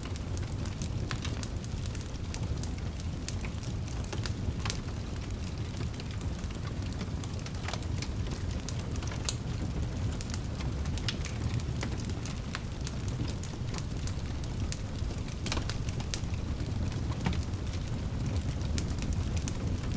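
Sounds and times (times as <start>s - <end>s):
fire crackling and popping: 0.0s - 19.9s
low rumble of flames: 0.0s - 19.9s.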